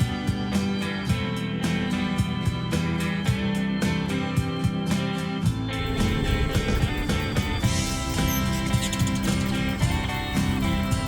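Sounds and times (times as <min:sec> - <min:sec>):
country guitar music with beat: 0:00.0 - 0:11.0.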